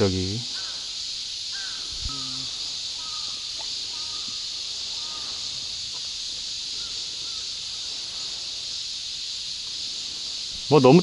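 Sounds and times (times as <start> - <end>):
faint bird calls: 0.0 - 10.8
insects droning: 0.0 - 11.0.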